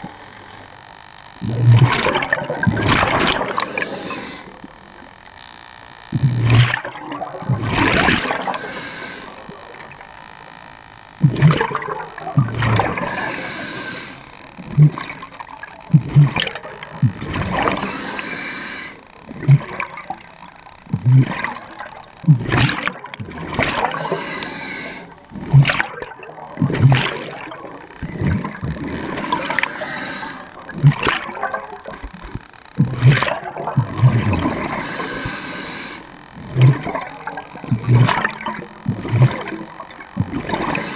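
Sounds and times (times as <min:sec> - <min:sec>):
underwater bubbling: 0:00.0 - 0:40.9.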